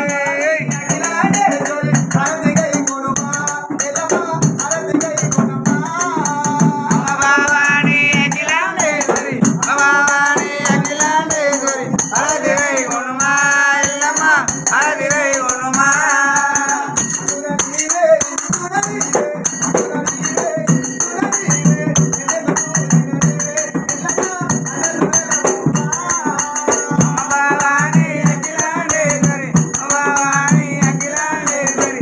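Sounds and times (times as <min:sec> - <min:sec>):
barrel drum beating: 0:00.0 - 0:32.0
several voices singing devotional song: 0:00.0 - 0:32.0.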